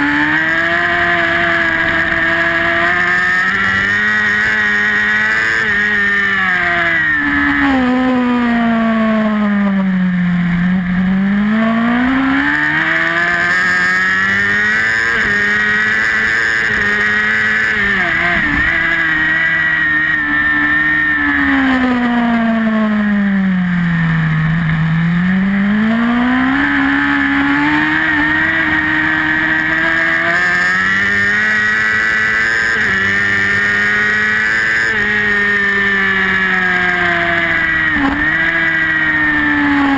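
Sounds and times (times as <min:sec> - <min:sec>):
superbike engine at high revs: 0:00.0 - 0:39.9.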